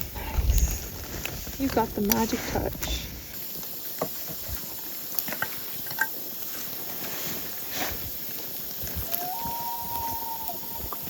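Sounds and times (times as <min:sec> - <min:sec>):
campfire crackling and hissing: 0:00.0 - 0:11.0.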